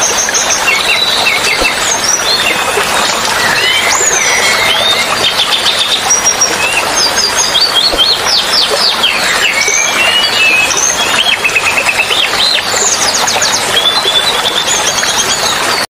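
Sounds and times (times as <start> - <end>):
running water hiss: 0.0 - 15.8
songbirds chirping and trilling: 0.0 - 15.9.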